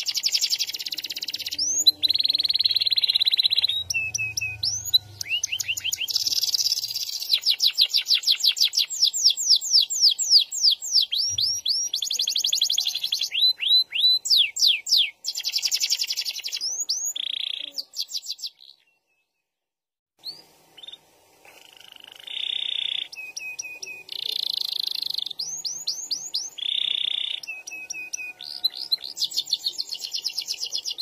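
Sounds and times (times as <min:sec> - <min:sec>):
canary singing: 0:00.0 - 0:19.3, 0:20.2 - 0:31.0.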